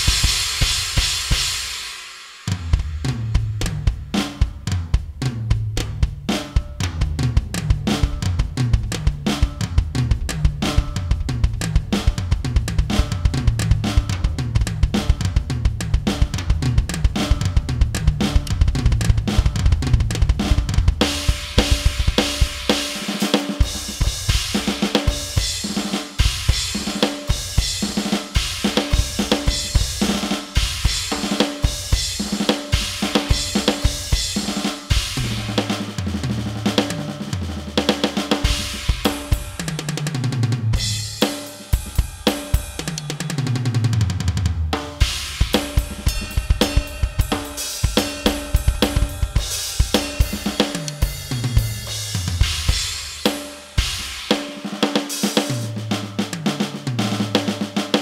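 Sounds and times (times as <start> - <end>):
electronic drum kit solo: 0.0 - 58.0.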